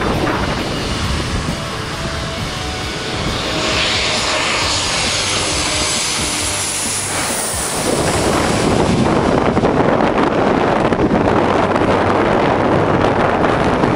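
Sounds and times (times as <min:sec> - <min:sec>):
jet airliner passing overhead: 0:00.0 - 0:13.9
rough rushing roar: 0:00.0 - 0:13.9.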